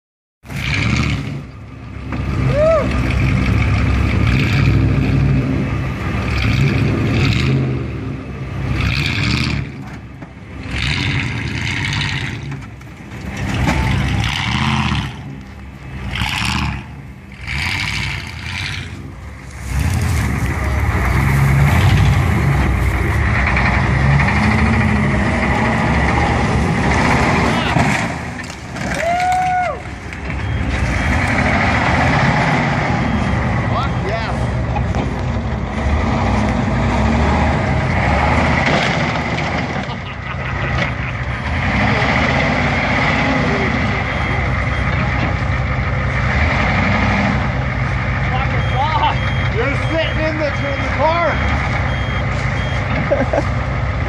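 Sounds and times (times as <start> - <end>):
heavy truck engine running: 0.4 - 54.0
truck engine revving: 0.4 - 54.0.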